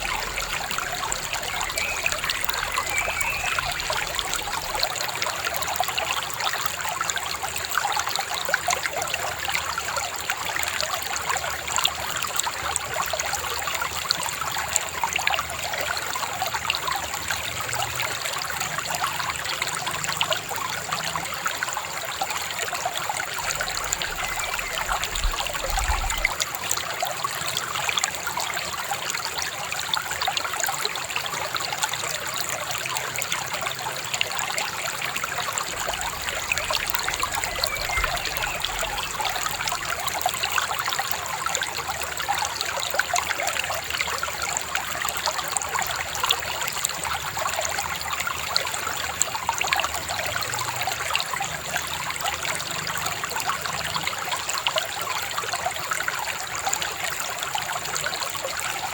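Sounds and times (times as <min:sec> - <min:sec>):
babbling river: 0:00.0 - 0:58.9.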